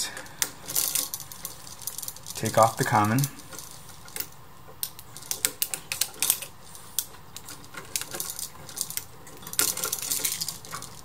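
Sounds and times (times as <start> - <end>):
small metallic clicks: 0.1 - 11.0.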